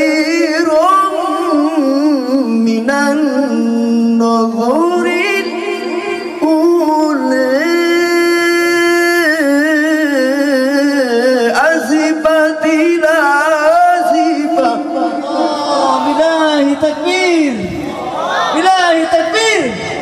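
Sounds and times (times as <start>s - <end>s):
man chanting melodically into microphone: 0.0s - 17.8s, 18.5s - 20.0s.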